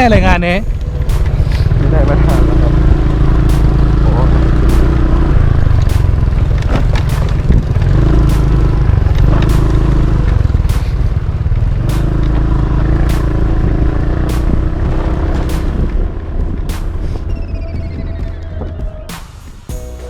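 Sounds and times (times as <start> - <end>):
motorbike engine rumbling: 0.0 - 20.0.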